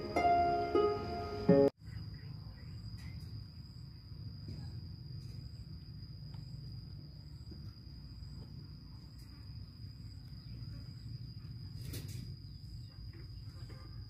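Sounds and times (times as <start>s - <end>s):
outdoor background rumble: 1.2s - 14.0s.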